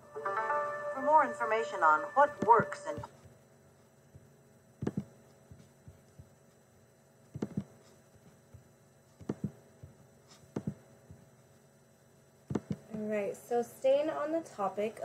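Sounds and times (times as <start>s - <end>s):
quiet room noise: 0.0s - 15.0s.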